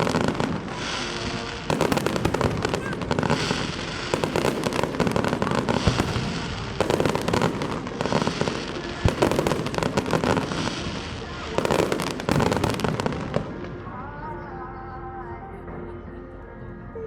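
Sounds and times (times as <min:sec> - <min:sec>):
fireworks crackling: 0:00.0 - 0:14.2.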